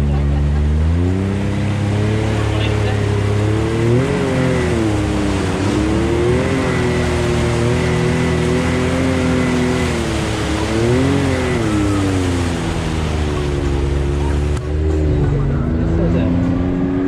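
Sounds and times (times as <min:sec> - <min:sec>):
water splashing off tyres: 0:00.0 - 0:16.2
engine revving under load: 0:00.0 - 0:17.0.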